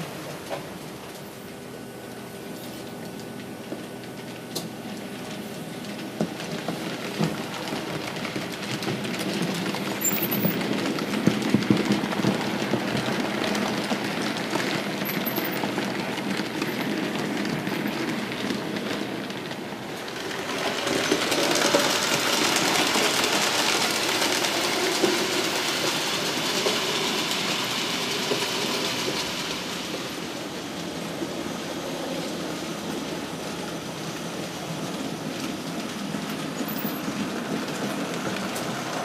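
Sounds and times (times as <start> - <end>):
model train wheels clicking on rails: 0.0 - 39.0.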